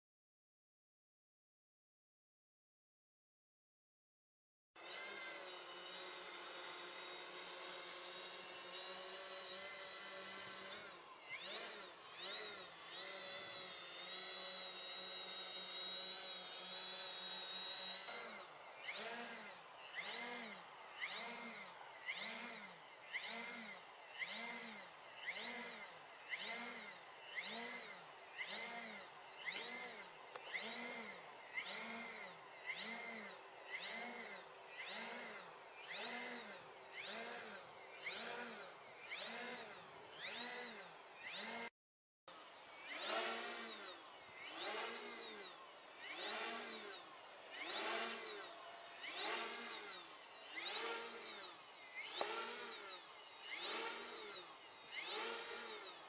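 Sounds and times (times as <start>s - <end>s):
drone propellers whining: 4.8s - 41.7s, 42.3s - 56.0s.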